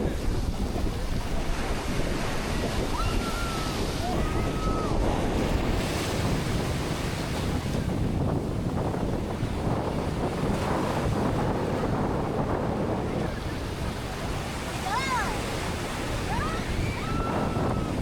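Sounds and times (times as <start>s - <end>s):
ocean surf washing ashore: 0.0s - 18.0s
wind buffeting microphone: 0.0s - 18.0s.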